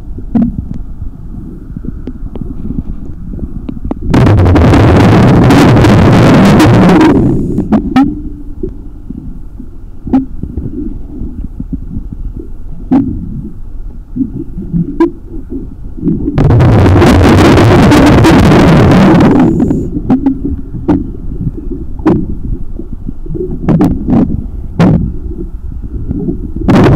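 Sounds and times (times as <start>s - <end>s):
muffled water noise: 0.0s - 26.9s
underwater bubbles gurgling: 0.0s - 26.9s.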